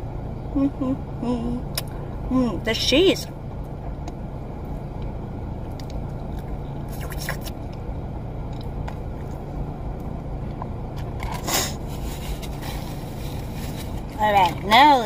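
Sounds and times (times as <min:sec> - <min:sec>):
low hum of car: 0:00.0 - 0:15.0.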